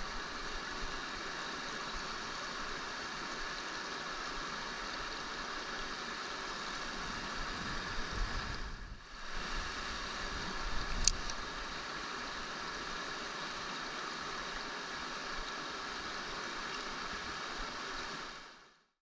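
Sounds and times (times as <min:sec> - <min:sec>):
stream water rushing: 0:00.0 - 0:18.8.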